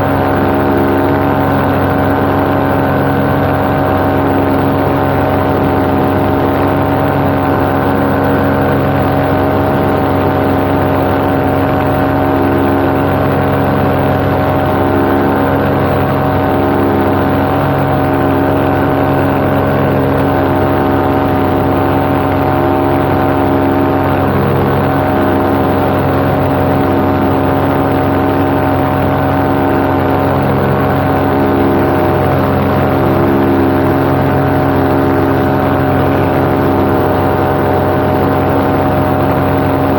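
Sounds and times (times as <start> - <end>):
paramotor engine droning: 0.0 - 39.9.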